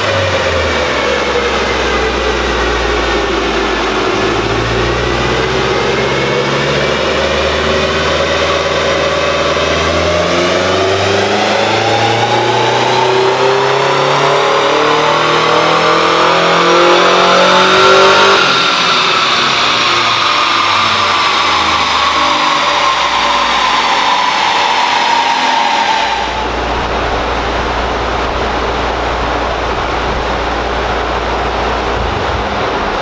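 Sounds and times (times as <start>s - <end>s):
low hum with rushing noise: 0.0s - 15.8s, 18.8s - 33.0s
car engine revving on dyno: 0.0s - 33.0s
whine falling in pitch: 0.0s - 33.0s.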